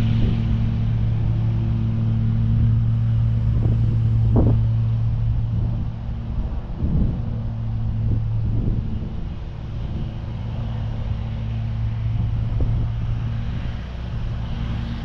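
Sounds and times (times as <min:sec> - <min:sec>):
mower blades mulching leaves: 0:00.0 - 0:15.0
mower engine running: 0:00.0 - 0:15.0.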